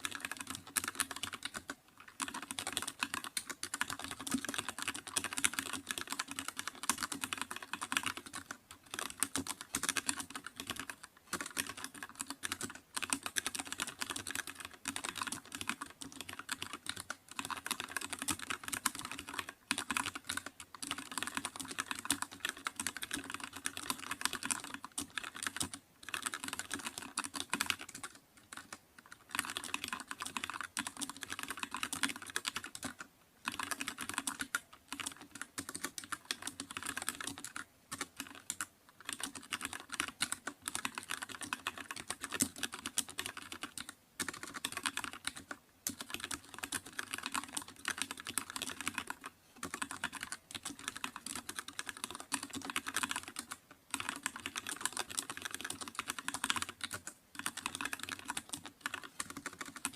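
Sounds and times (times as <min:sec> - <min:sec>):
typing on computer keyboard: 0:00.0 - 0:59.9.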